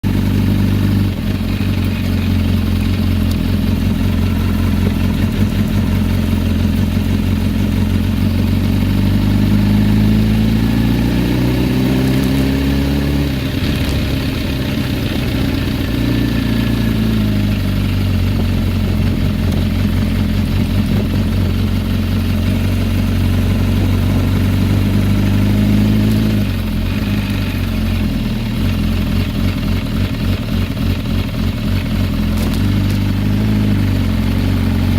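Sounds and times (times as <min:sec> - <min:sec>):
engine ticking and rattling: 0:00.0 - 0:34.9
motorcycle engine idling and revving: 0:00.0 - 0:34.9.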